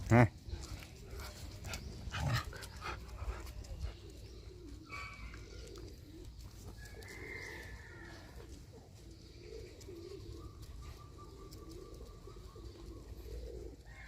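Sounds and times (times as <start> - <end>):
doves cooing: 0.0 - 14.0.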